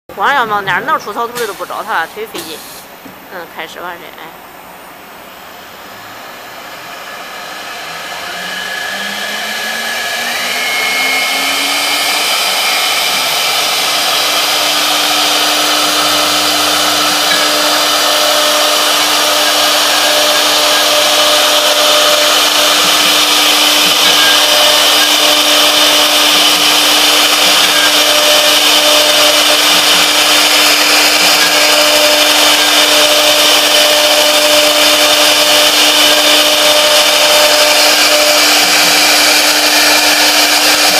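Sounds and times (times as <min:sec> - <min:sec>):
wood router spindle whine: 0:05.3 - 0:40.9
router bit cutting wood: 0:05.5 - 0:40.9.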